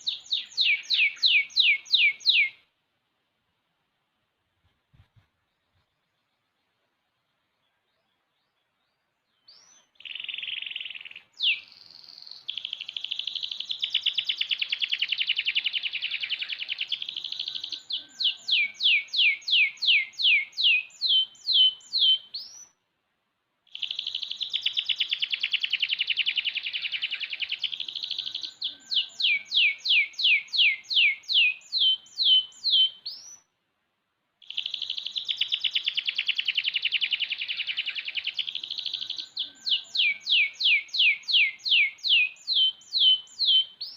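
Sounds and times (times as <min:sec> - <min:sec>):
canary singing trills: 0:00.0 - 0:02.6, 0:07.6 - 0:22.8, 0:23.7 - 0:33.5, 0:34.4 - 0:43.9.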